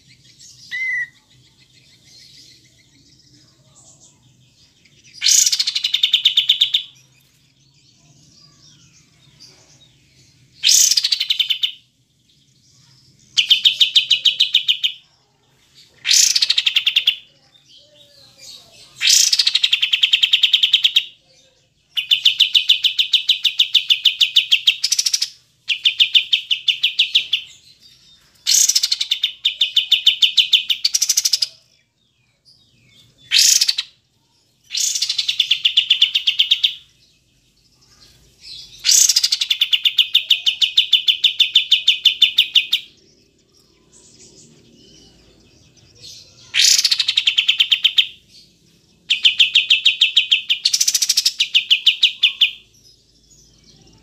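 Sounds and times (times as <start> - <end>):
bulbul singing: 0.0 - 15.2, 15.8 - 54.0.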